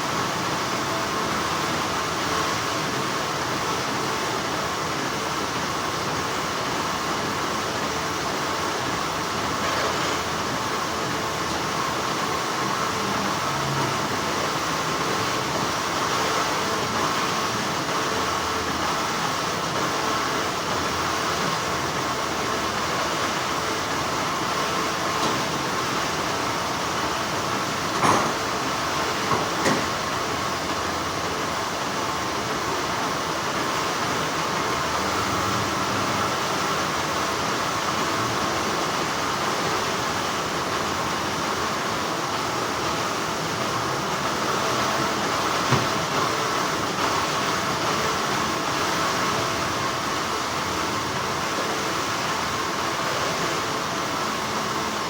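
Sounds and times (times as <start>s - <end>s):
factory machinery humming: 0.0s - 55.0s.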